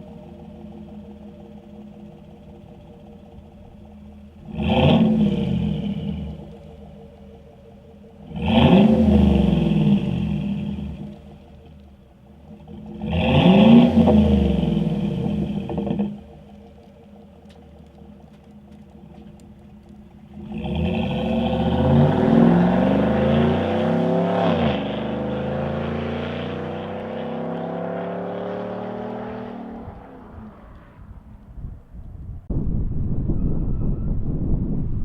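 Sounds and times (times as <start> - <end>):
truck engine accelerating: 0.0 - 35.0.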